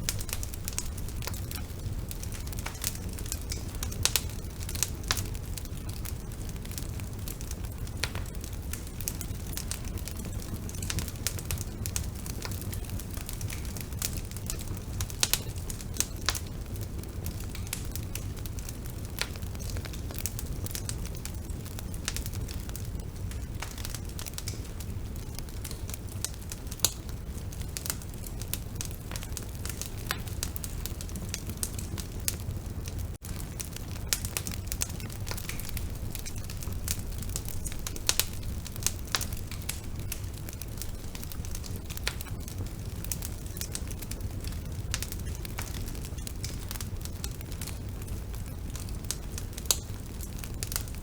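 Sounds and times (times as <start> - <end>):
bonfire wood crackling and popping: 0.0 - 51.0
low fire rumble: 0.0 - 51.0.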